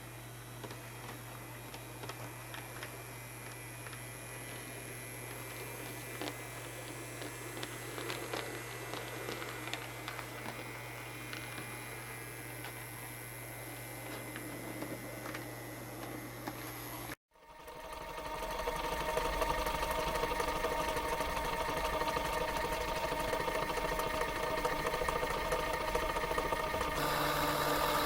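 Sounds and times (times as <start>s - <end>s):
model locomotive motor whine: 0.0s - 28.0s.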